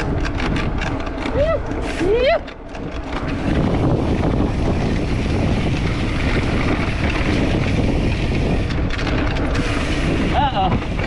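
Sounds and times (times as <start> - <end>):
bike tyres rolling on dirt: 0.0 - 11.0
wind rush on microphone: 0.0 - 11.0.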